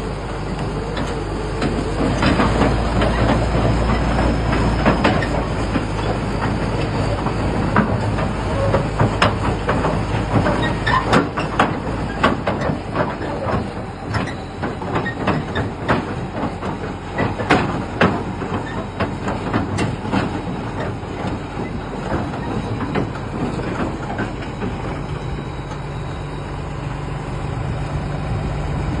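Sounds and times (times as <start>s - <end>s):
earthmoving machine engine running: 0.0s - 29.0s
sharp metallic knocks and clanks: 1.0s - 26.0s.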